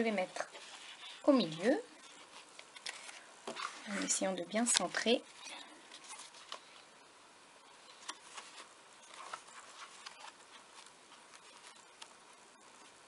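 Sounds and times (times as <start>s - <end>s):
paper rustling: 0.3s - 6.8s, 7.9s - 13.0s.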